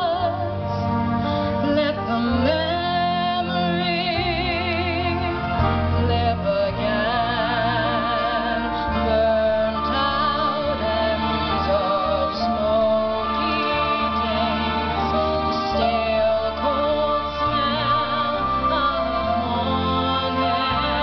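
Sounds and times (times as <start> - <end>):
woman singing a slow ballad: 0.0 - 0.9, 1.6 - 21.0
instrumental accompaniment: 0.0 - 21.0.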